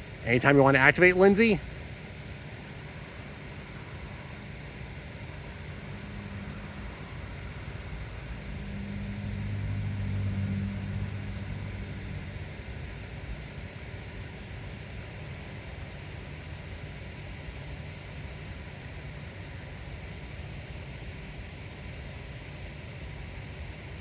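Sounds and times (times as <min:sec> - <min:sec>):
low hum of passing vehicle: 0:00.0 - 0:24.0.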